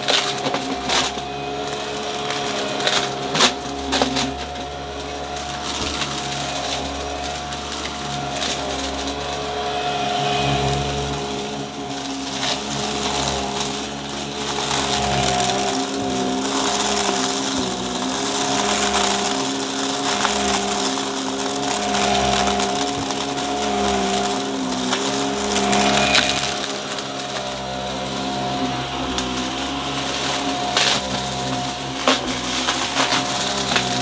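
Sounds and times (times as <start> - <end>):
debris crackling in vacuum: 0.0 - 34.0
vacuum cleaner motor whine: 0.0 - 34.0.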